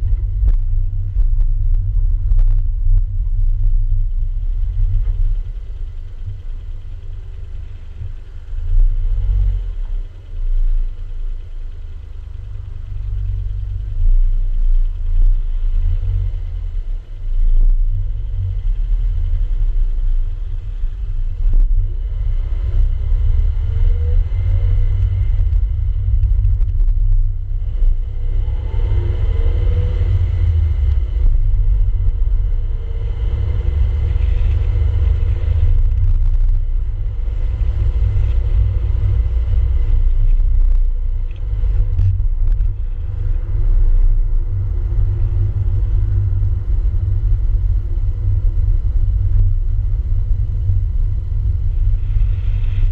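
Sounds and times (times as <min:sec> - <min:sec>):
faint car engine: 0:00.0 - 0:52.9
road and wind noise: 0:00.0 - 0:52.9.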